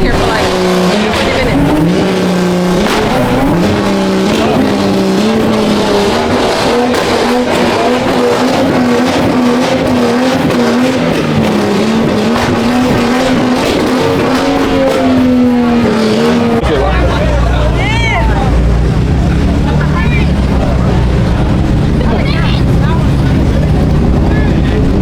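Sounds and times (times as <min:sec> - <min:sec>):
car engine at high revs: 0:00.0 - 0:25.0
tyre and street noise: 0:00.0 - 0:25.0.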